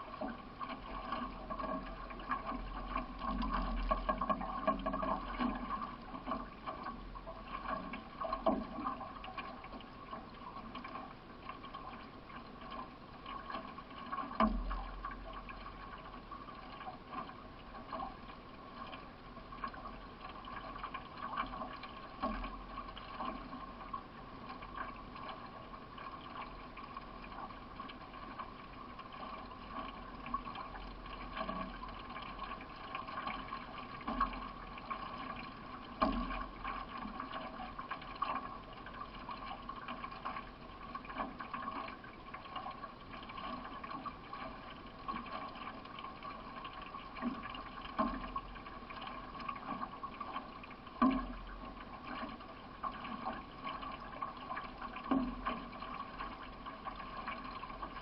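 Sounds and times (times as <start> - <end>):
water rushing along canoe hull: 0.0 - 58.0.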